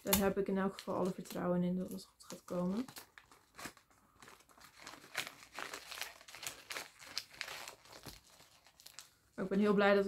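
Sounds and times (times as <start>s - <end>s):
wrapping paper crinkling: 0.6s - 9.2s.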